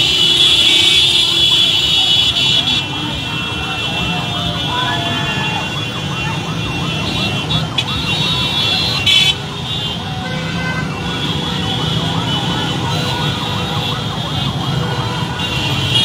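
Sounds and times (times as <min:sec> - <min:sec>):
crowd noise: 0:00.0 - 0:16.0
street traffic: 0:00.0 - 0:16.0
siren yelping: 0:00.7 - 0:16.0.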